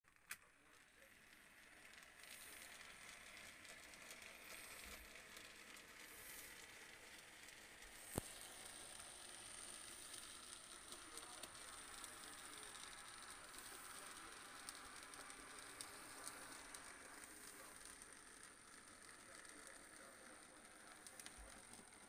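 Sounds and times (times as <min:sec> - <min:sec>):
model train whirring and rattling: 0:00.2 - 0:22.0.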